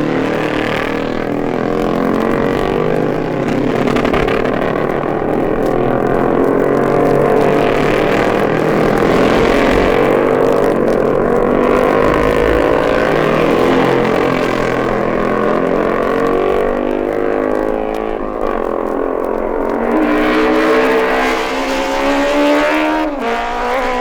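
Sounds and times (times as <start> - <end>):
racing motorcycles accelerating: 0.0 - 24.0.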